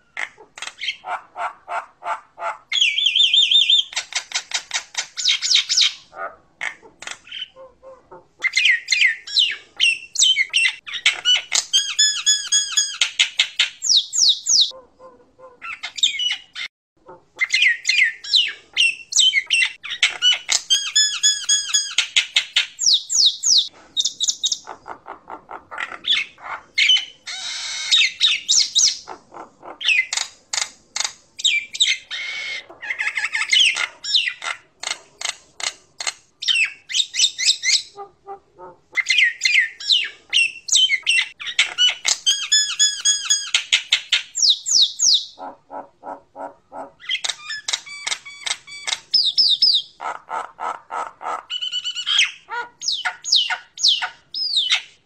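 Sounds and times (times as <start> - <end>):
myna bird singing: 2.7 - 14.8, 15.6 - 16.7, 17.3 - 25.0, 25.7 - 35.0, 36.0 - 38.0, 39.0 - 45.5, 46.4 - 50.1, 51.5 - 55.0.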